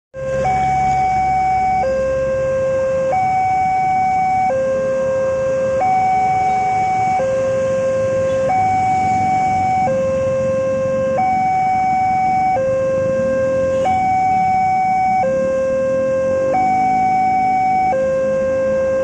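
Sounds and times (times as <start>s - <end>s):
level crossing two-tone alarm: 0.2s - 19.0s.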